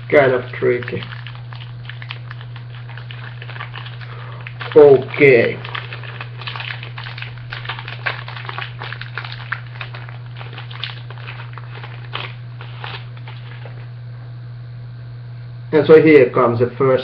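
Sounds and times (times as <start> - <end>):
foil wrapper crinkling: 0.0 - 13.9
steady low hum: 0.0 - 17.0.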